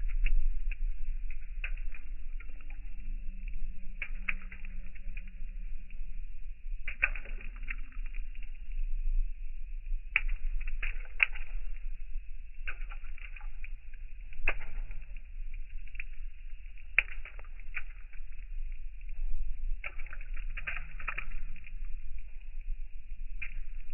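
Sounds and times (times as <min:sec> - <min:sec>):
raindrops tapping and spattering: 0:00.0 - 0:05.6, 0:06.8 - 0:08.7, 0:09.8 - 0:23.9
steady low rumble: 0:00.0 - 0:23.9.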